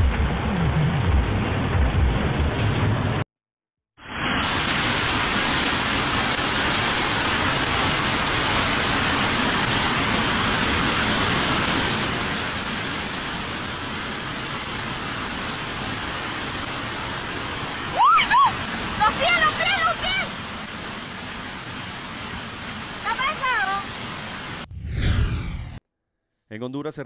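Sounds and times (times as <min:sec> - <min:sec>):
floodwater rushing: 0:00.0 - 0:03.2, 0:04.0 - 0:24.7.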